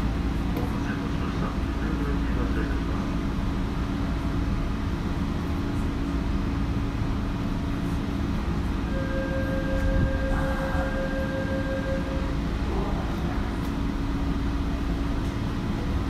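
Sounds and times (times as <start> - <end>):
high train whine: 0.0 - 16.0
subway train rumbling: 0.0 - 16.0.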